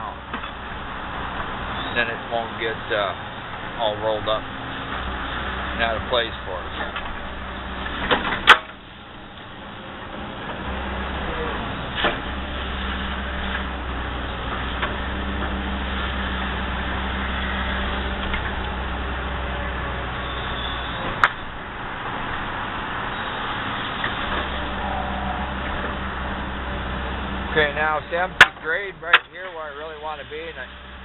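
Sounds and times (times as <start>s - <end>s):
excavator diesel engine: 0.0s - 31.0s.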